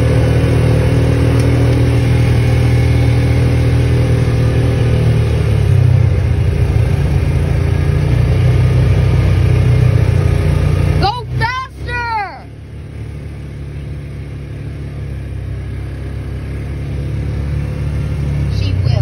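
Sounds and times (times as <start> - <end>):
road noise: 0.0 - 19.0
utility vehicle engine running: 0.0 - 19.0.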